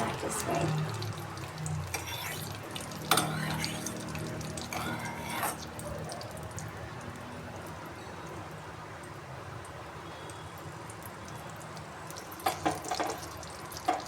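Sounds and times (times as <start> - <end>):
wax pouring and dripping: 0.0 - 14.0.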